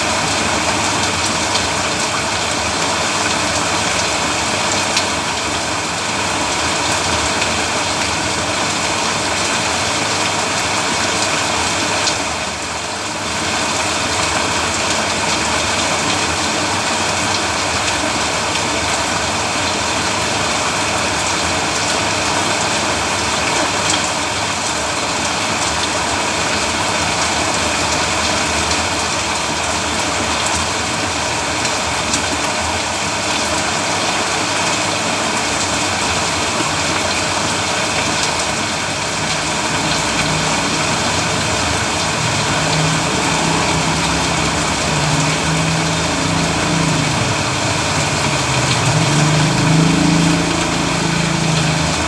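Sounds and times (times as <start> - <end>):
rain falling on a road: 0.0 - 52.0.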